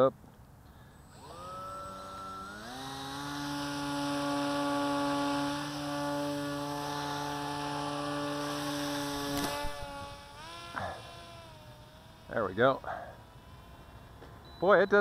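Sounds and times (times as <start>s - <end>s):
electric motor and propeller whine: 0.8s - 15.0s.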